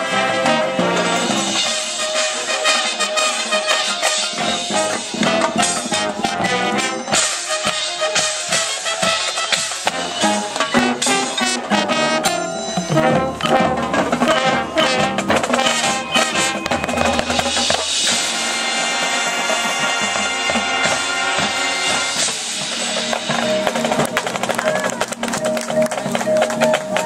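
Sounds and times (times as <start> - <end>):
marching band brass: 0.0 - 27.0
marching band drum hits: 1.3 - 27.0.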